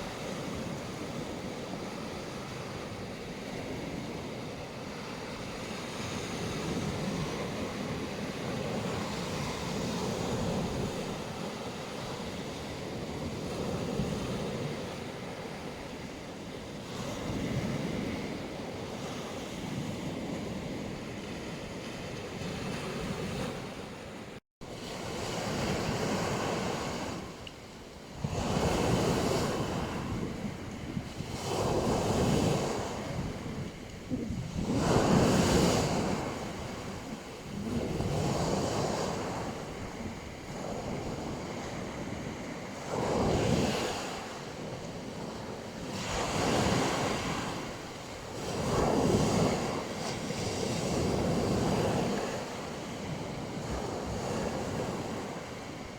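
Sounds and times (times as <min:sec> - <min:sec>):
waves breaking on a beach: 0:00.0 - 0:55.9.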